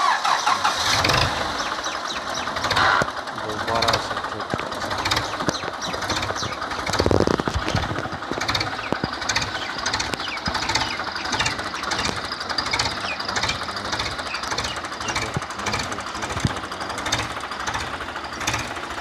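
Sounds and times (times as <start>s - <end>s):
diesel tractor engine idling: 0.0s - 19.0s.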